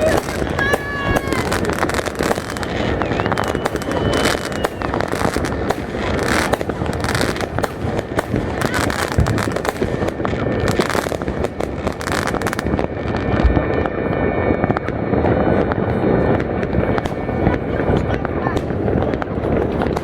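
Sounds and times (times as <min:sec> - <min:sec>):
crowd voices: 0:00.0 - 0:20.0
firework whistle: 0:00.0 - 0:20.0
fireworks bangs and crackles: 0:00.0 - 0:20.0.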